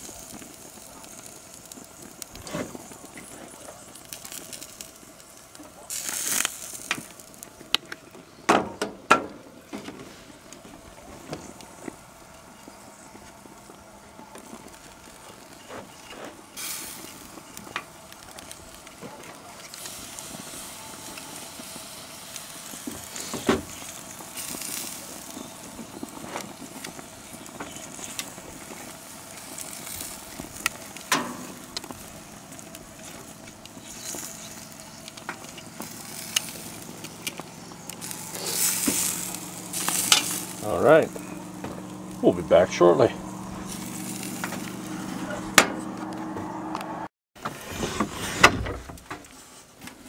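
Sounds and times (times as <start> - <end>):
meat sizzling on a grill: 0.0 - 8.5, 10.0 - 46.0.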